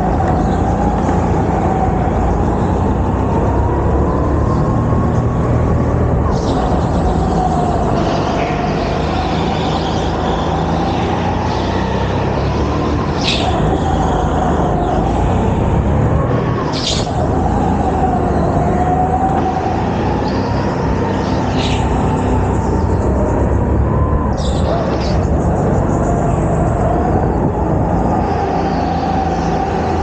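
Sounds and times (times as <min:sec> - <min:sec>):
go-kart engine rumble and whine: 0:00.0 - 0:30.0.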